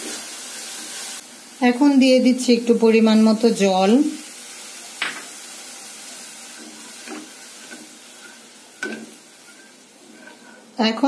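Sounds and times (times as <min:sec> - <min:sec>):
spices sizzling in a pan: 0:00.0 - 0:11.0.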